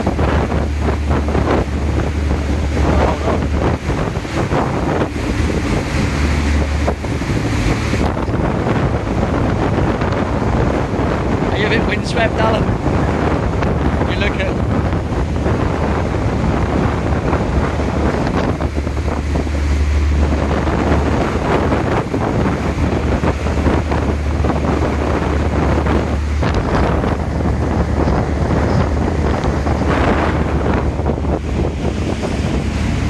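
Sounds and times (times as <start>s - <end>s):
boat wake rushing: 0.0s - 33.0s
steady low rumble: 0.0s - 33.0s
wind buffeting microphone: 0.0s - 33.0s.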